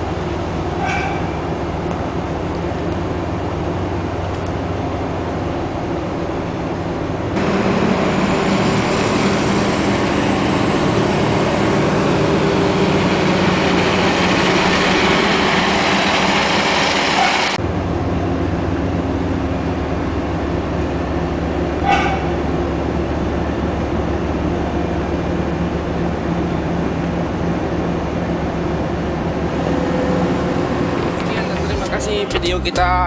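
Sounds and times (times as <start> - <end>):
industrial machinery rumble and hum: 0.0 - 33.0.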